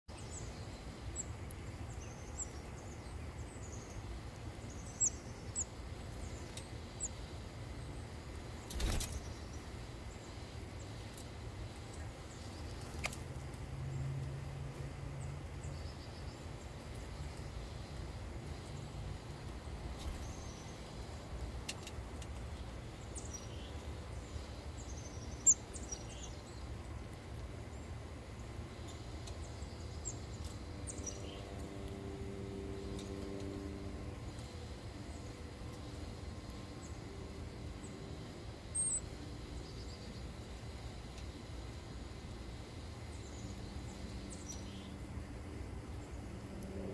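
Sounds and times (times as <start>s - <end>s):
small birds chirping: 0.1s - 46.6s.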